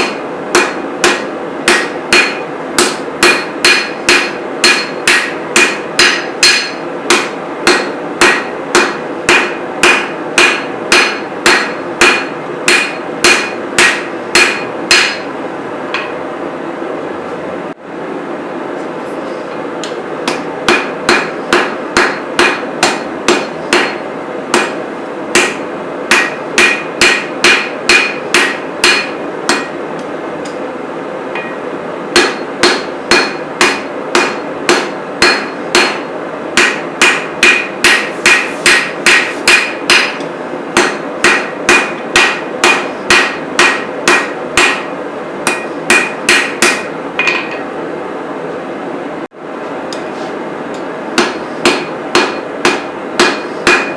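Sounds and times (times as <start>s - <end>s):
hammer striking metal on anvil: 0.0s - 15.3s, 15.9s - 16.2s, 19.8s - 29.8s, 31.3s - 47.7s, 51.2s - 53.9s.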